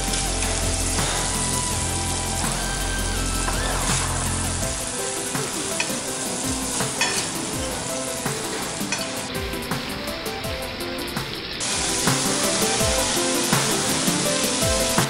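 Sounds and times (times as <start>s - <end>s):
food sizzling on griddle: 0.0s - 15.0s.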